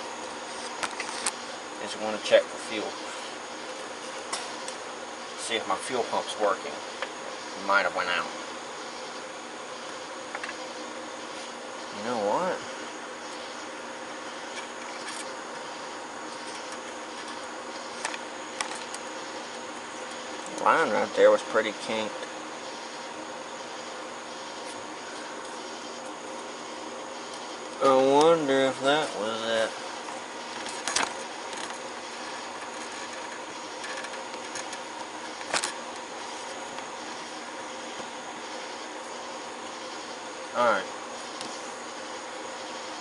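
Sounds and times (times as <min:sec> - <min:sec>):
background hiss: 0:00.0 - 0:43.0
buzzing hum: 0:00.0 - 0:43.0.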